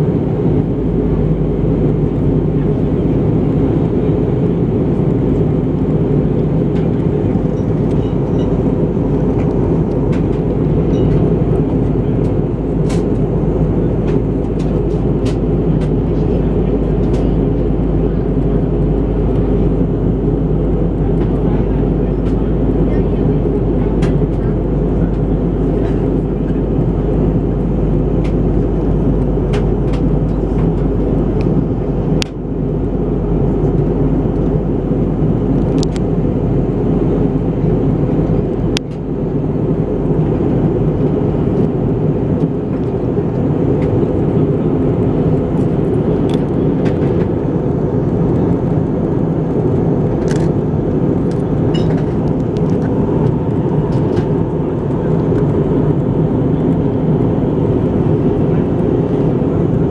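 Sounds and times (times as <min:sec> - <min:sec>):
airliner cabin roar: 0:00.0 - 0:59.9.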